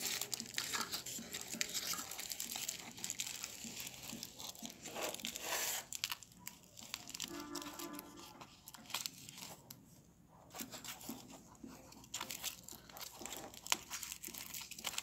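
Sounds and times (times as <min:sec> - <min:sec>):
aluminium foil crinkling: 0:00.0 - 0:09.8, 0:10.5 - 0:15.0.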